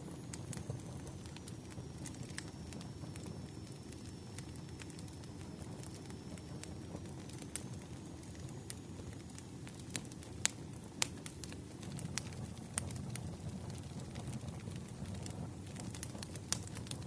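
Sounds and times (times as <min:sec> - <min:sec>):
campfire flames rushing: 0:00.0 - 0:17.0
wood crackling and popping: 0:00.0 - 0:17.0.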